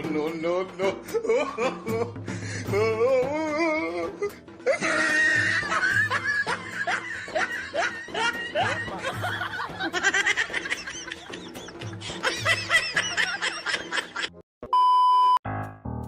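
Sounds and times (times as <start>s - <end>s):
background music with low beat: 0.0s - 14.4s.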